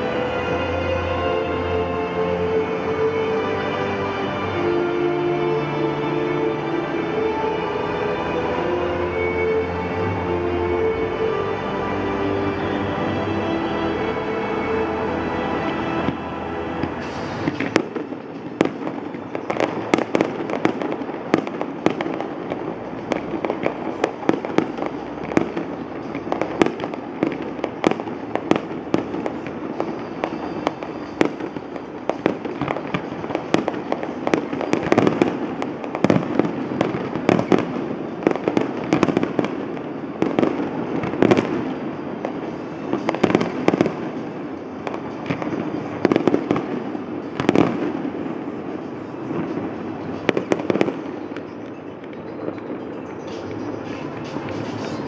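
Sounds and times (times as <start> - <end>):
distant fireworks bangs and crackles: 0.0 - 55.0.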